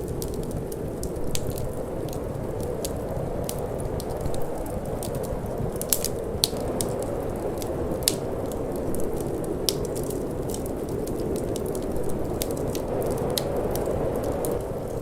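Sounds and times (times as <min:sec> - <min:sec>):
low rushing wind: 0:00.0 - 0:15.0
wood fire crackling and popping: 0:00.0 - 0:15.0.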